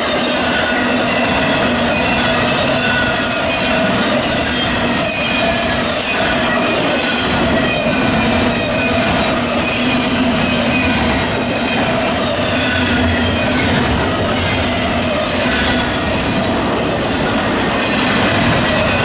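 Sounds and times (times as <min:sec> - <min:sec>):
freight train rumbling past: 0:00.0 - 0:19.0
train wheel squeal: 0:00.0 - 0:19.0.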